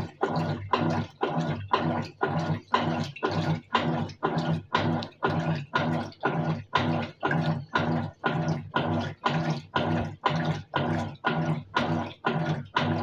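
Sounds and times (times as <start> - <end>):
washing machine sloshing water: 0.0 - 13.0.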